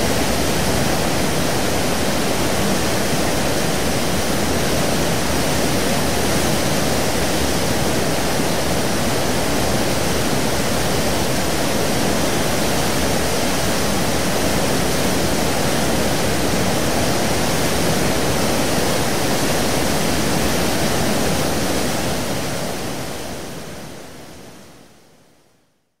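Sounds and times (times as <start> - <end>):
sea water churning and rushing: 0.0 - 24.5.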